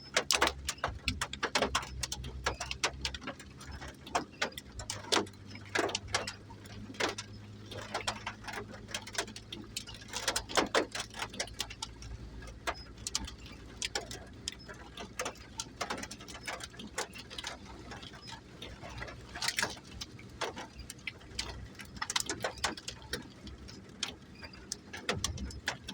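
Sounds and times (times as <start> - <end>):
raindrops dripping on hard surface: 0.0 - 25.9.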